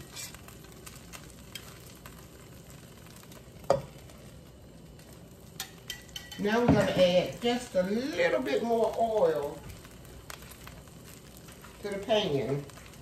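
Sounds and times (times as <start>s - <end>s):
oil sizzling in skillet: 0.0s - 13.0s.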